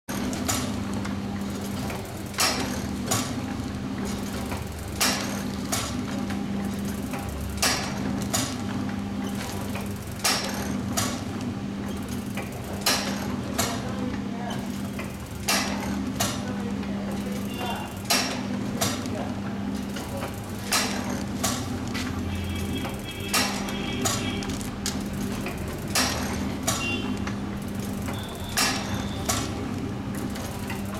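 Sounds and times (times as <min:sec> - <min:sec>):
steady motor hum: 0:00.1 - 0:30.9.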